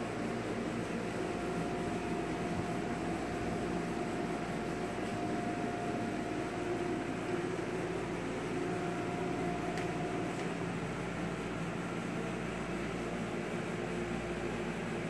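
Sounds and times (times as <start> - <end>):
faint high whine: 0.0 - 14.7
mechanical hum and hiss: 0.0 - 15.0.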